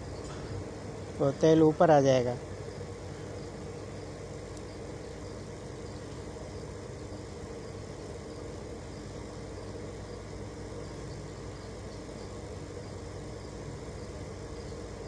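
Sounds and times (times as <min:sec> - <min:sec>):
cooking pot humming: 0:00.0 - 0:15.0.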